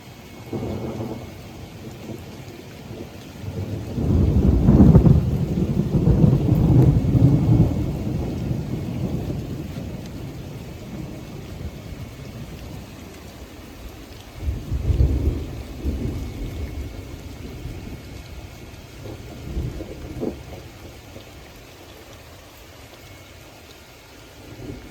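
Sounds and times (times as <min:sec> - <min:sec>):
thunder rumbling: 0:00.0 - 0:23.4, 0:24.1 - 0:24.9
steady rain: 0:00.0 - 0:24.9.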